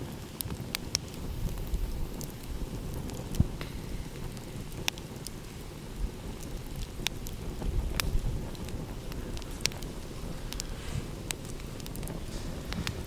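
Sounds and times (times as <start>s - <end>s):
low rumble of ocean waves: 0.0s - 13.0s
sharp pops of fire: 0.0s - 13.0s
wood fire crackling: 0.0s - 13.0s.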